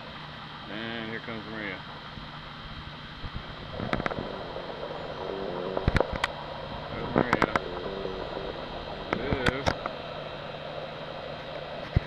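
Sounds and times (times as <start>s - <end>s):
vehicle driving hum: 2.0s - 12.0s.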